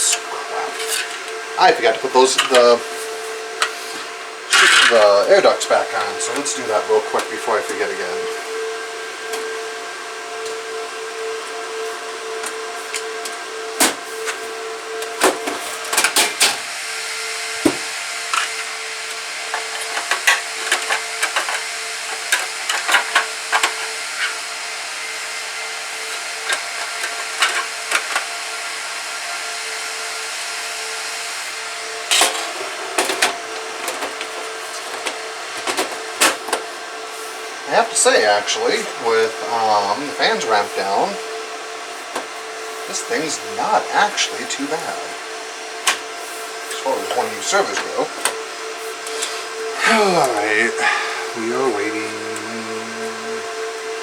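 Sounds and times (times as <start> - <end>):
server cooling fans humming: 0.0 - 54.0.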